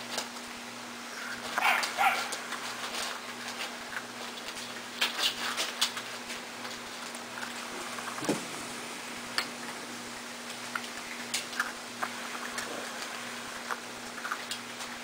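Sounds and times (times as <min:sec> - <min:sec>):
puppies crunching kibble in metal pan: 0:00.0 - 0:08.3, 0:09.2 - 0:15.0.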